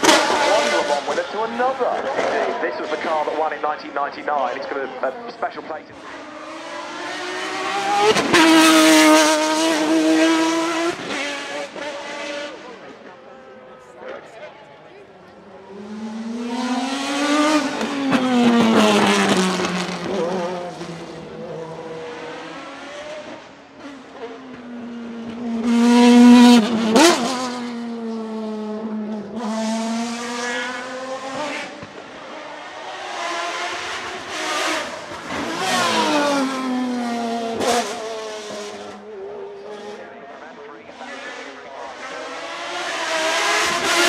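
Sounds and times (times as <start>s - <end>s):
racing engine revving: 0.0s - 13.1s, 15.3s - 44.0s.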